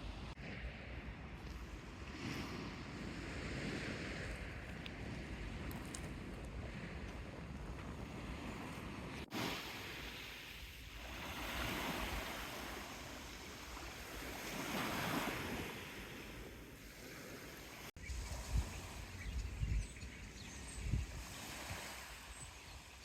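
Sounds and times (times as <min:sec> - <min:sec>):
sea waves washing in: 0:00.0 - 0:19.5
wind rumble on microphone: 0:00.0 - 0:23.0.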